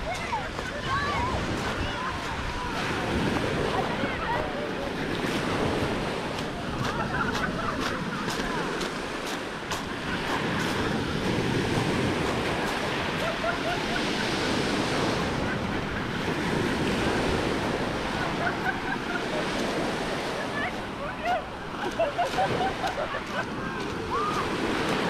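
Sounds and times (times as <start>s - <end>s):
waves washing onto pebble shore: 0.0s - 25.0s
wind on microphone: 0.0s - 25.0s.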